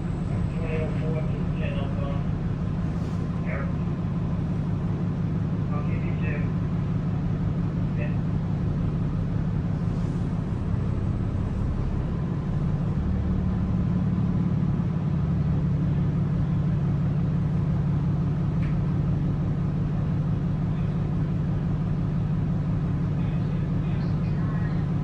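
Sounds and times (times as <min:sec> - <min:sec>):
bus engine low rumble: 0:00.0 - 0:25.0.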